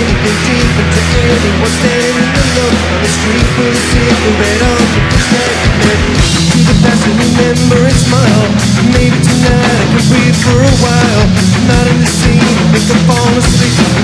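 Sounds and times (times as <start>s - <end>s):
bass: 0.0s - 14.0s
distorted electric guitar: 0.0s - 14.0s
drums: 0.0s - 14.0s
male lead vocal singing: 0.0s - 14.0s.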